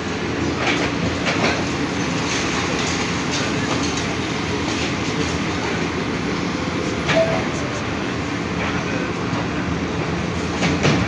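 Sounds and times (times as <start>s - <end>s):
excavator diesel engine and hydraulics: 0.0s - 11.0s.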